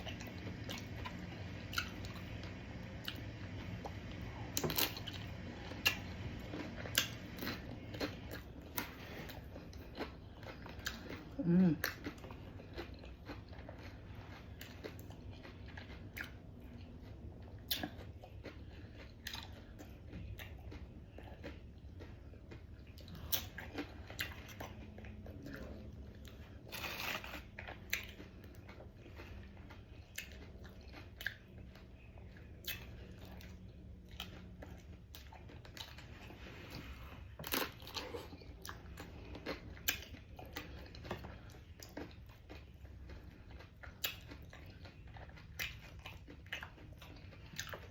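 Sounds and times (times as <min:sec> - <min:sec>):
faint low hum: 0:00.0 - 0:47.9
person crunching and chewing: 0:00.0 - 0:47.9.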